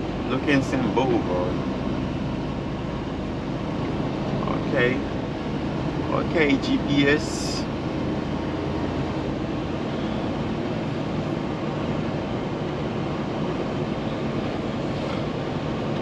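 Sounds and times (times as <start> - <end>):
road noise inside cab: 0.0 - 16.0
truck diesel engine running: 0.0 - 16.0.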